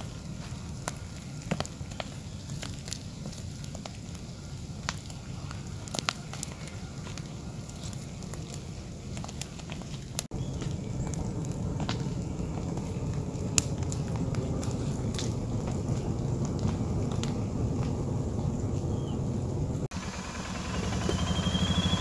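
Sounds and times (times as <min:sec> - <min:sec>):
burning wood crackling and popping: 0:00.0 - 0:22.0
low roar of flame: 0:00.0 - 0:22.0.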